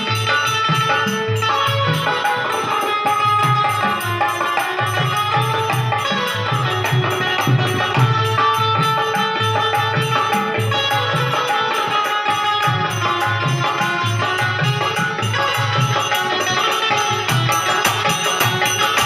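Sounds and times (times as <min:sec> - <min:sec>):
hand drum rhythm: 0:00.0 - 0:19.0
jingling percussion: 0:00.0 - 0:19.0.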